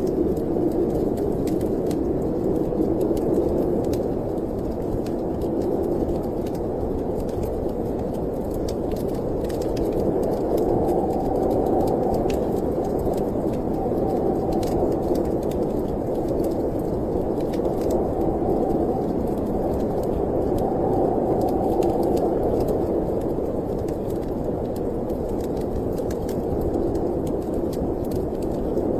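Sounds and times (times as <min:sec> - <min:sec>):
snowstorm wind blowing: 0:00.0 - 0:28.9
wood fire crackling: 0:00.0 - 0:28.9.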